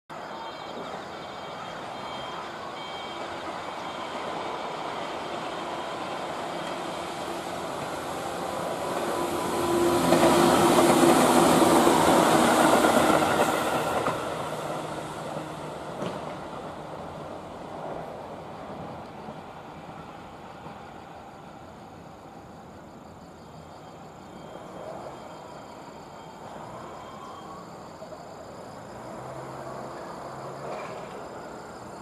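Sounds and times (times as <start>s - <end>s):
electric train passing: 0.1s - 32.0s.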